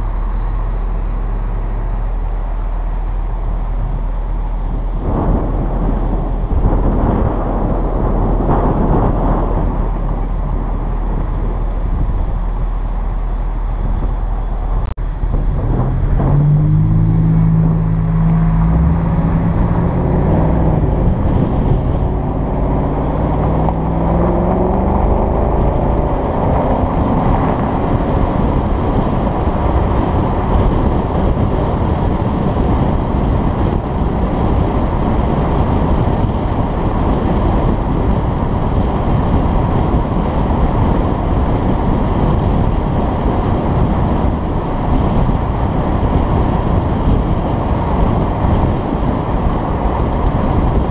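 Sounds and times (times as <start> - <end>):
car exhaust accelerating: 0.0 - 50.9
road and wind noise: 0.0 - 50.9.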